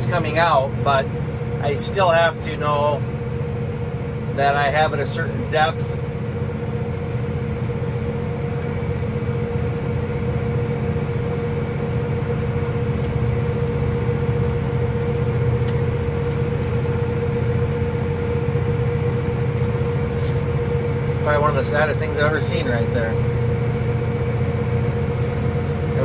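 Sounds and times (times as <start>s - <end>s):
steady whine: 0.0s - 26.0s
tractor engine running: 0.0s - 26.0s.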